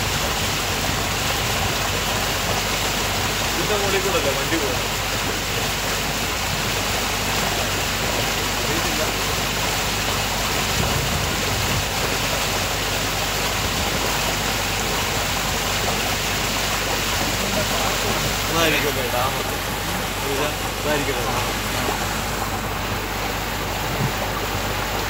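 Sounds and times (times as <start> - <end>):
low engine hum: 0.0 - 25.0
water and wind rushing along hull: 0.0 - 25.0.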